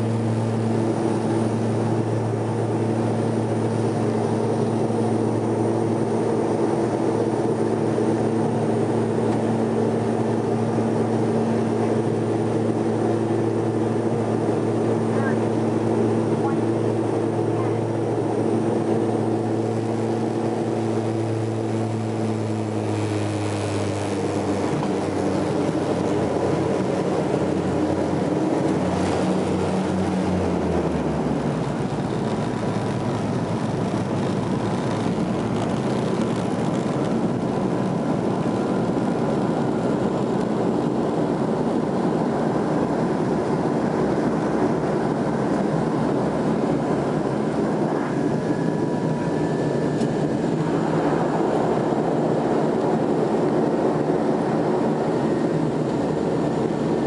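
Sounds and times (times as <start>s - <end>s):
turboprop engines droning in cabin: 0.0s - 57.0s.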